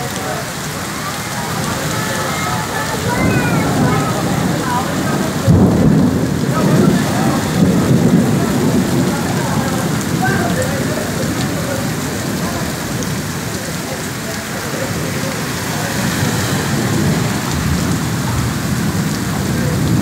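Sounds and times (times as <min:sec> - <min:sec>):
heavy rain on a wet street: 0:00.0 - 0:20.0.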